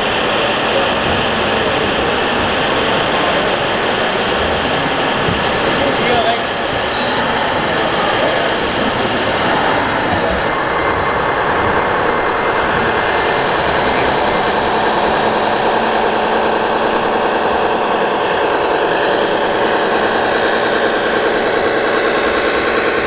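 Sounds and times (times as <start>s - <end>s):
rc trucks mechanical drone: 0.0s - 23.0s.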